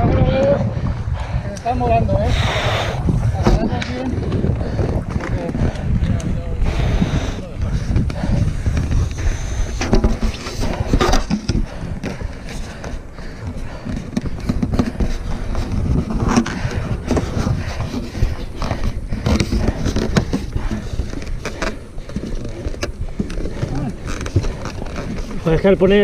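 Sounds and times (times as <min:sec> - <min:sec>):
hand and clothing rubbing camera: 0:02.3 - 0:26.0.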